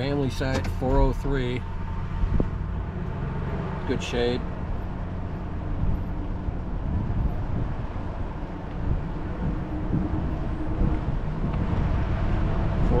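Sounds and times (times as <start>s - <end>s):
vehicle engine and road rumble: 0.0s - 13.0s
wind buffeting microphone: 1.0s - 3.7s, 4.4s - 13.0s.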